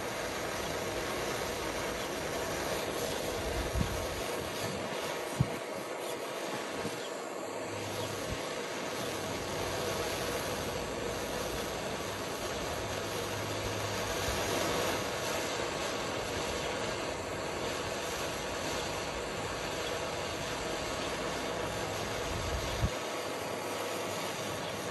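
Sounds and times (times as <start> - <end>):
torch flame hissing: 0.0 - 24.9.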